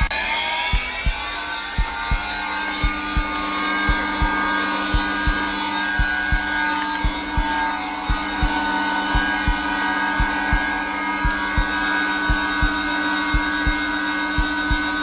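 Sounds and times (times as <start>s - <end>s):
heartbeat thumping: 0.0s - 15.0s
vacuum cleaner running: 0.0s - 15.0s.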